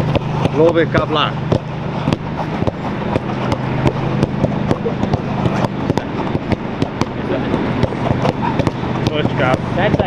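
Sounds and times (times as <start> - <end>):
footballs kicked on turf: 0.0 - 10.0
steady low hum: 0.0 - 10.0.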